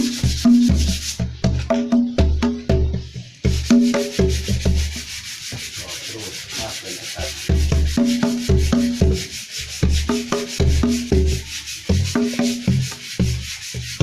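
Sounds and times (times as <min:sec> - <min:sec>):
fast rasping shaker: 0:00.0 - 0:14.0
hand drum strokes: 0:00.0 - 0:14.0.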